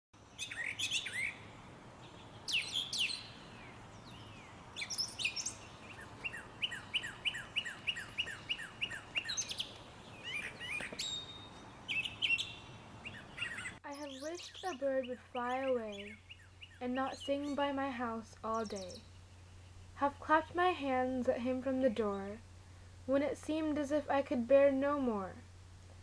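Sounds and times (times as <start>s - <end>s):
bird chirping: 0.2s - 22.4s.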